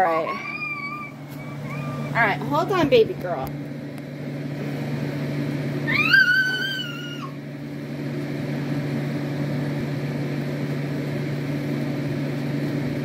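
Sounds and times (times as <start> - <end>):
steady low appliance hum: 0.0 - 13.0.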